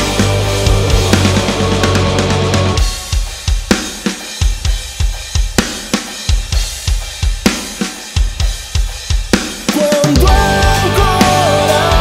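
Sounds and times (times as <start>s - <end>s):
rock drum kit groove: 0.0s - 12.0s.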